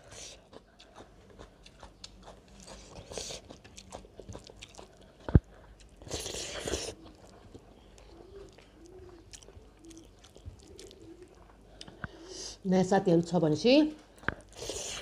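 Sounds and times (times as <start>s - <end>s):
person chewing: 0.0s - 12.3s, 14.2s - 15.0s.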